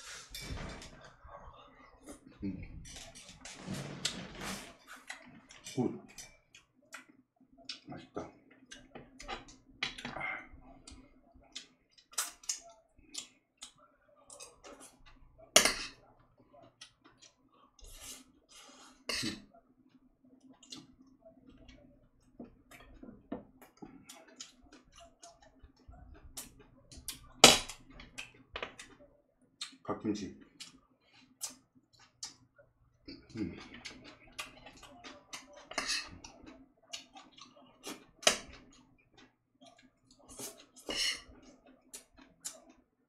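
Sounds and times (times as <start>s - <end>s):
chewing: 1.1s - 29.8s, 30.4s - 42.9s.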